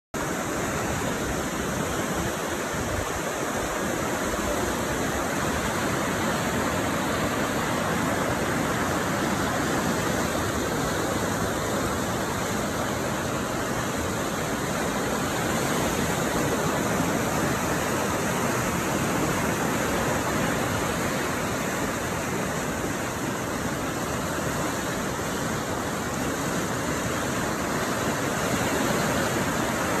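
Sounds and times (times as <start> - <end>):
water rushing over rocks: 0.1 - 30.0.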